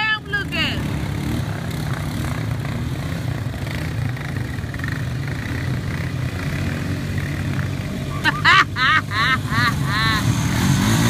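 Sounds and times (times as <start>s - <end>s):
atv engines humming: 0.0s - 11.0s.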